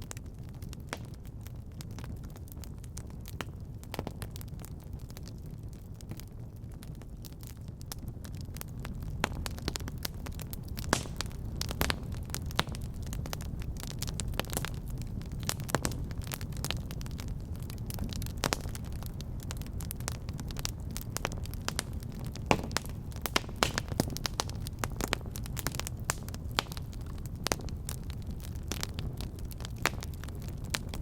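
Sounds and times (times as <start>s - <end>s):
low rumble of flames: 0.0s - 31.0s
wood fire crackling: 0.0s - 31.0s.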